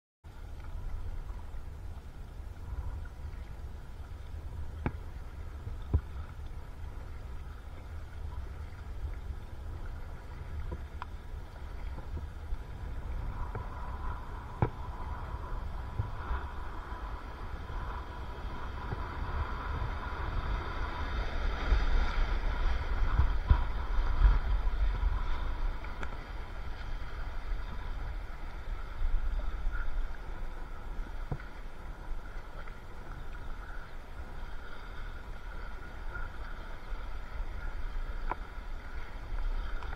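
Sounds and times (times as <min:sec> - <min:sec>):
wind rumble on microphone: 0:00.2 - 0:39.9
river water rushing and splashing: 0:00.3 - 0:39.9.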